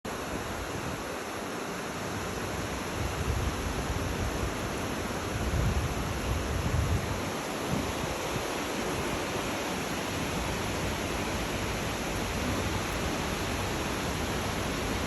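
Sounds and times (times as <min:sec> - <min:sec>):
steady rain hiss: 0:00.1 - 0:15.0.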